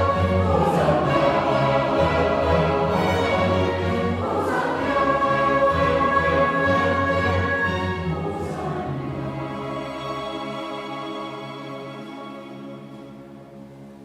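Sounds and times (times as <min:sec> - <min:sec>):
mixed choir singing: 0:00.0 - 0:12.9
chamber orchestra: 0:00.0 - 0:14.0.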